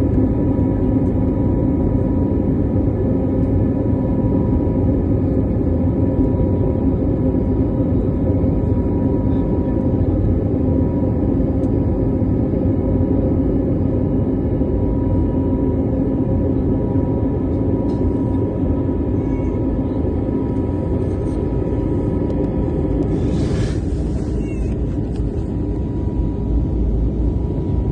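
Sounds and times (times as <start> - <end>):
aeroplane engines running: 0.0 - 27.9.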